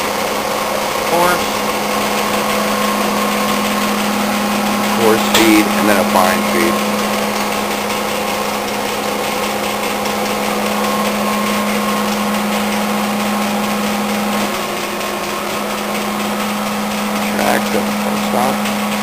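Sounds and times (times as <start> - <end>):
grinder humming: 0.0 - 19.0
grinding wheel hissing: 0.0 - 19.0.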